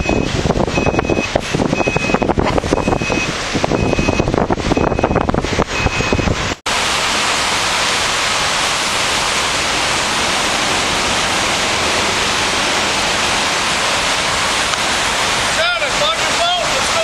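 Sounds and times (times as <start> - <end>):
floodwater rushing: 0.0 - 5.6, 6.7 - 17.0.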